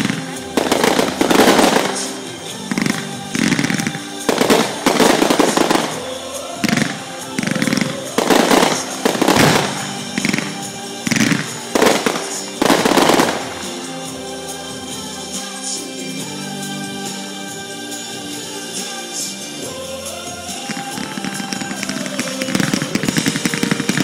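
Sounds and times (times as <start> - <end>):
firework shells bursting and crackling: 0.0 - 15.4, 18.6 - 24.0
music: 0.0 - 24.0.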